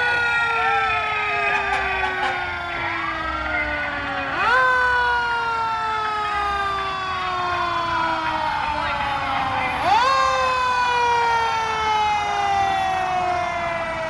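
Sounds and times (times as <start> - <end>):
fire truck siren: 0.0 - 14.0.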